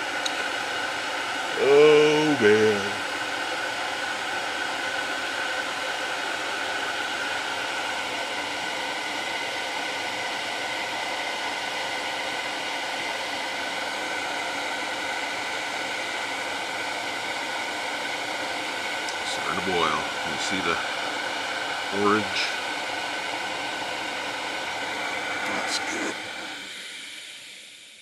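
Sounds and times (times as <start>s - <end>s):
gas stove burner hissing: 0.0s - 28.0s.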